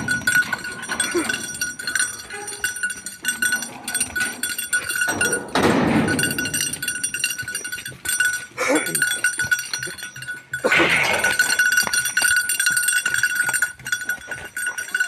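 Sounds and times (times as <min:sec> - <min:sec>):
cowbell clanking: 0:00.0 - 0:15.0.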